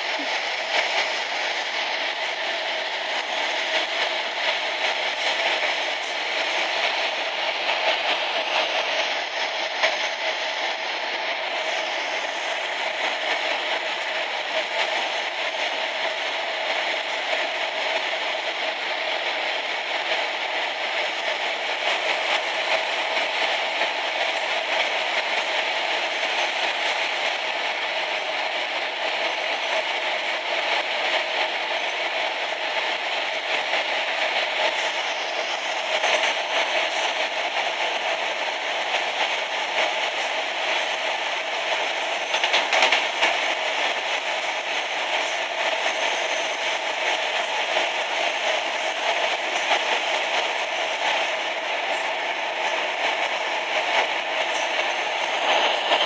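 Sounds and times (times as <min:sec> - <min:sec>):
train running through tunnel: 0:00.0 - 0:56.0.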